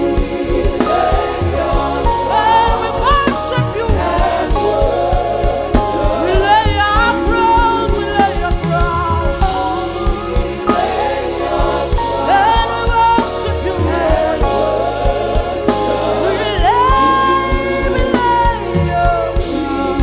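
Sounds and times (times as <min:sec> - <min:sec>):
choir singing: 0:00.0 - 0:20.0
lead singer singing: 0:00.0 - 0:20.0
steady drum beat: 0:00.0 - 0:20.0
sustained chords: 0:00.0 - 0:20.0.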